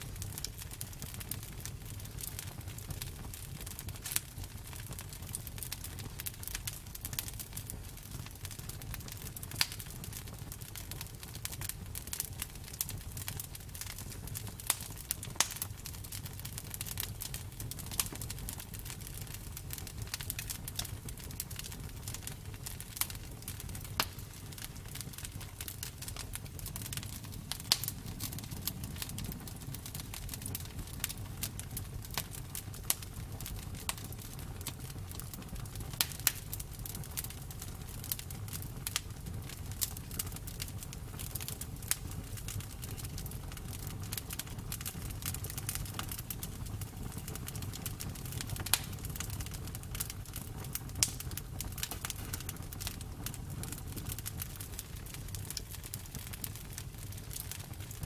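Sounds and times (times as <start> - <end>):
burning wood crackling: 0.0 - 58.0
low rumble of flames: 0.0 - 58.0.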